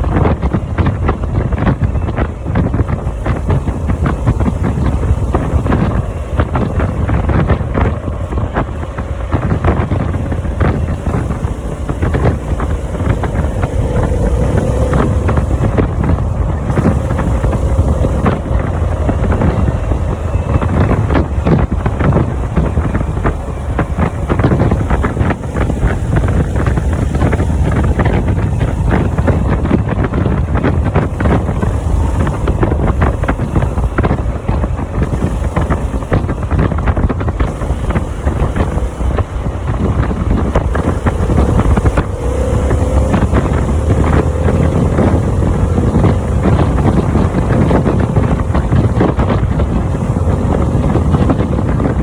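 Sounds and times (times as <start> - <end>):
motorcycle engine running: 0.0 - 52.0
wind buffeting microphone: 0.0 - 52.0.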